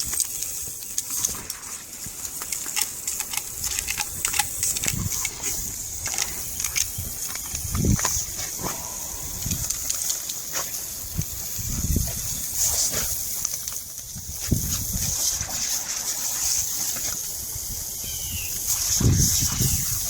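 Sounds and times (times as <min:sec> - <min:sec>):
lawn sprinkler spraying water: 0:00.0 - 0:20.0.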